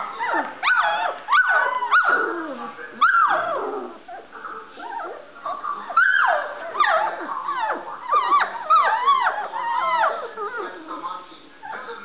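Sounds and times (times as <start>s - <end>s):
puppies crying and yipping: 0.0s - 12.0s.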